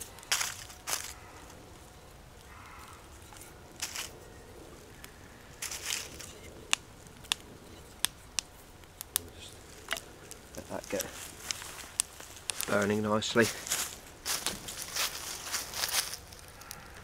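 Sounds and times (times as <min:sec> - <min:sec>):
kindling crackling and snapping: 0:00.0 - 0:17.0.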